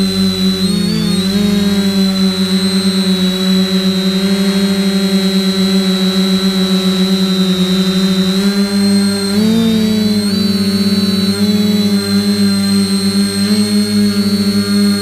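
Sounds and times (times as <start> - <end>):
drone motors humming: 0.0 - 15.0
high whine: 0.0 - 15.0.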